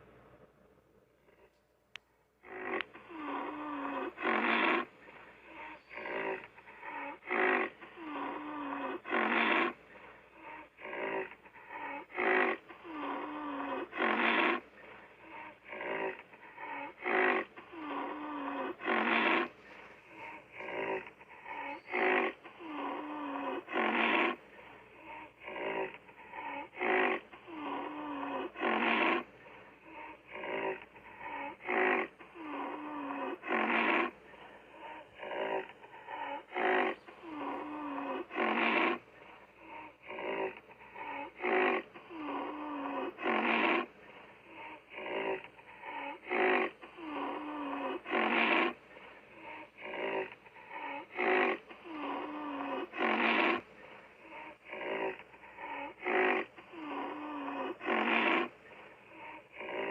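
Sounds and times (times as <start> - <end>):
animal calls: 2.4 - 59.9.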